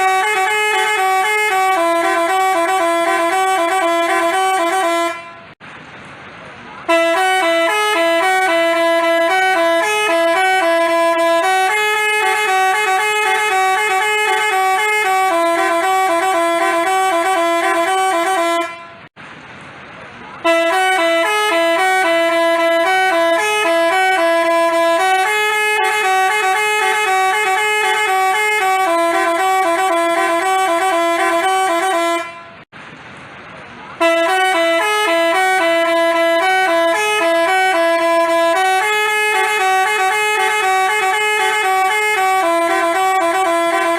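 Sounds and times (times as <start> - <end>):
bus horn playing a tune: 0.0 - 5.6, 6.8 - 19.2, 20.4 - 32.7, 34.0 - 43.9.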